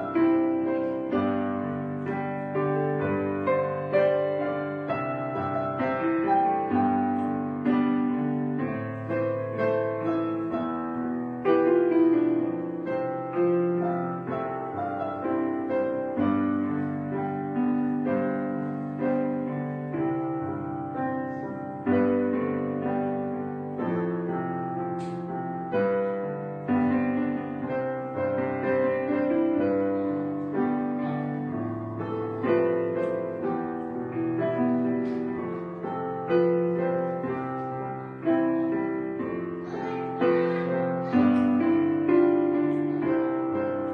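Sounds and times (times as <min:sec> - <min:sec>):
piano music: 0:00.0 - 0:43.9.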